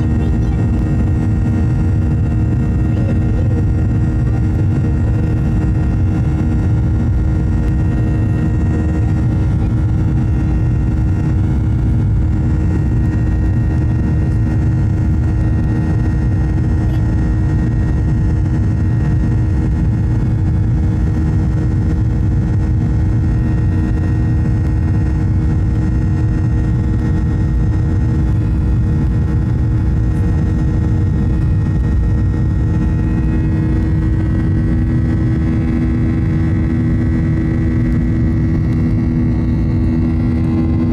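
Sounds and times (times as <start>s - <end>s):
jet cabin engine drone: 0.0s - 40.9s
second low hum: 0.0s - 40.9s.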